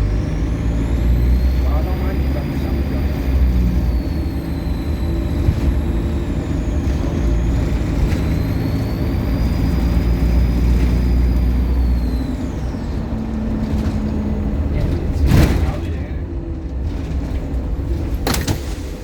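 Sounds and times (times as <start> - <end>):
turbocharger whine: 0.0 - 16.8
bus diesel engine drone: 0.0 - 19.0.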